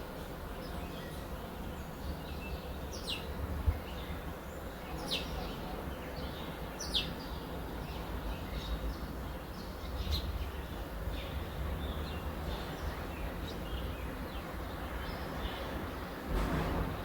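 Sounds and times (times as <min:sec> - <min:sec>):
small birds chirping: 0:00.6 - 0:16.3.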